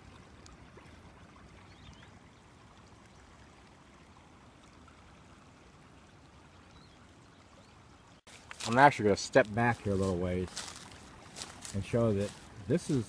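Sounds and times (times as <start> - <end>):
creek flowing over gravel: 0.0 - 13.0.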